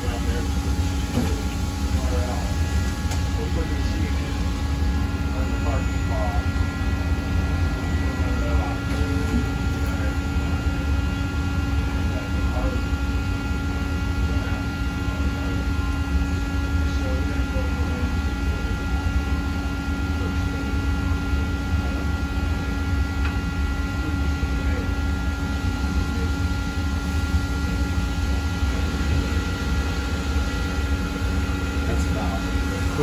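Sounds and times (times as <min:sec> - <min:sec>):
lathe machine hum and whine: 0:00.0 - 0:33.0.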